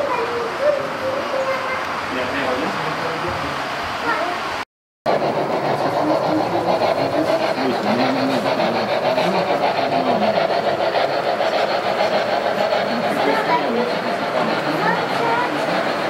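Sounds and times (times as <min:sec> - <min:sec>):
people talking: 0:00.0 - 0:04.4, 0:05.1 - 0:16.0
model train running on track: 0:00.0 - 0:16.0.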